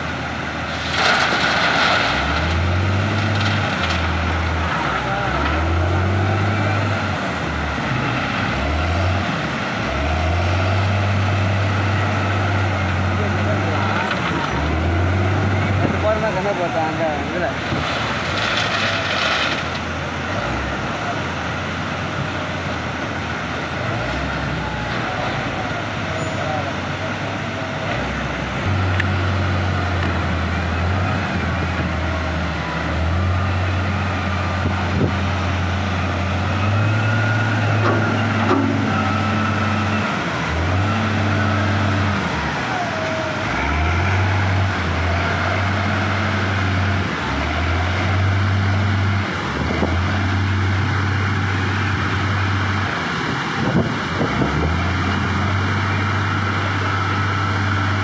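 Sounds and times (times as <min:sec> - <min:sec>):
wheel loader diesel engine: 0:00.0 - 0:58.0.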